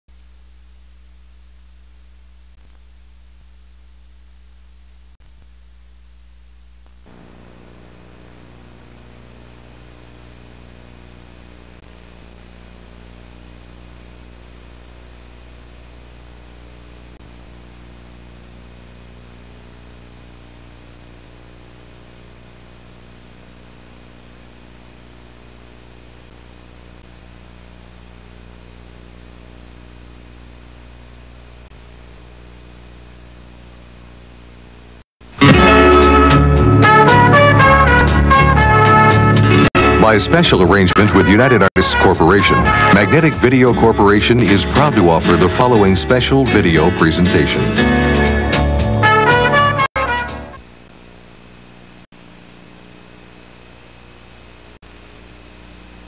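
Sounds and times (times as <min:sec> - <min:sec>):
electrical hum: 0:00.1 - 0:56.0
tape hiss: 0:00.1 - 0:56.0.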